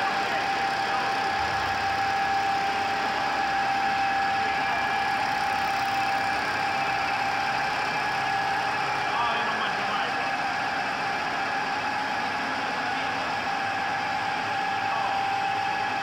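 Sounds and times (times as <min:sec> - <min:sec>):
constant machine whine: 0:00.0 - 0:16.0
machine hum: 0:00.0 - 0:16.0.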